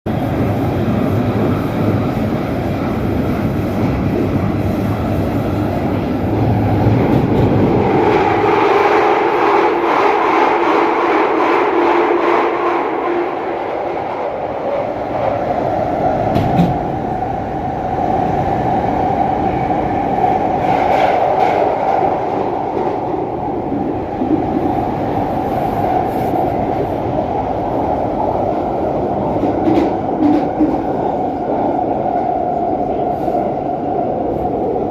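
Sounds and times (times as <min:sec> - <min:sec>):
underground train roaring: 0:00.1 - 0:34.9.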